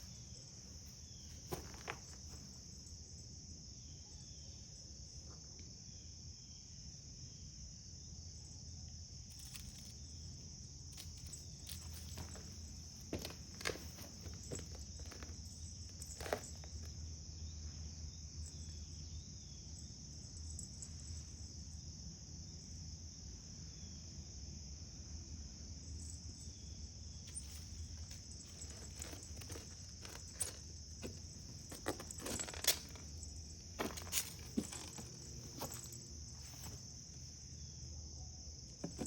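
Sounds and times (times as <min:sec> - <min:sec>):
high-pitched insect chorus: 0:00.0 - 0:39.0.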